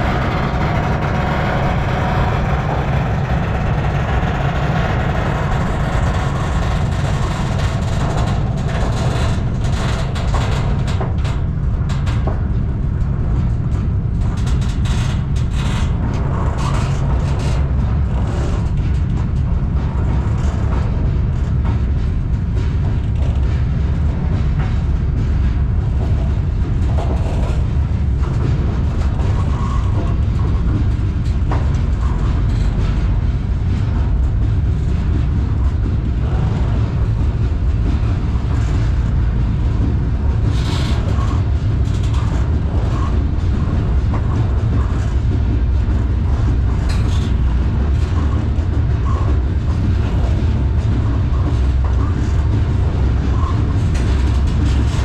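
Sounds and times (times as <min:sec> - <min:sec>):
freight train rumble: 0:00.0 - 0:55.0.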